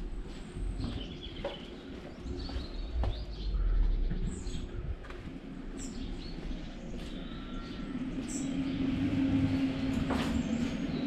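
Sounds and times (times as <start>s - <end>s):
small birds chirping: 0.6s - 11.0s
low rumble: 2.1s - 11.0s.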